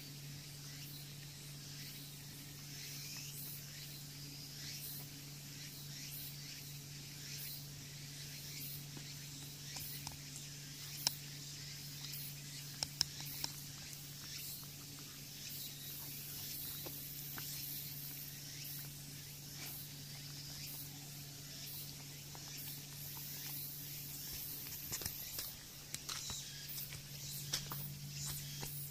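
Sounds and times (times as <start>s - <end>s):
low hum and hiss: 0.0s - 28.9s.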